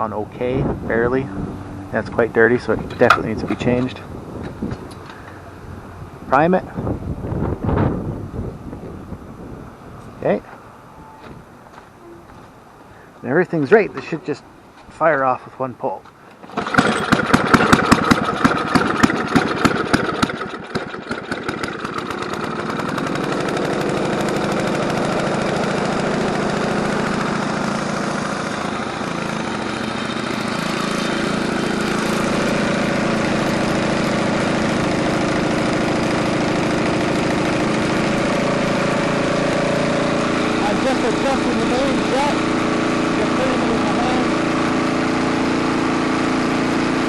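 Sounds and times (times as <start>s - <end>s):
snowblower engine running: 0.0s - 6.5s, 13.0s - 14.4s, 16.4s - 47.0s.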